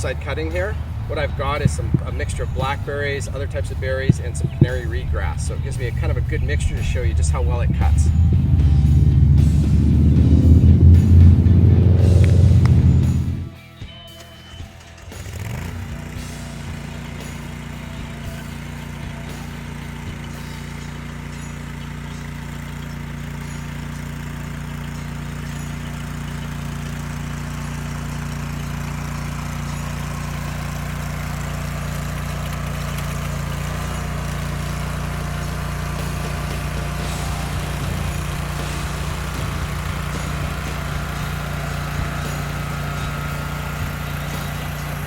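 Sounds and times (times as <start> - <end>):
sickle bar mower cutting brush: 0.0 - 45.0
skid steer engine revving: 0.0 - 45.0.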